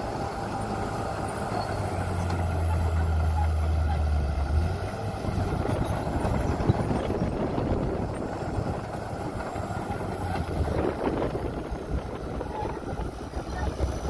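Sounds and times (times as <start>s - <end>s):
heavy diesel machinery rumble: 0.0s - 14.0s.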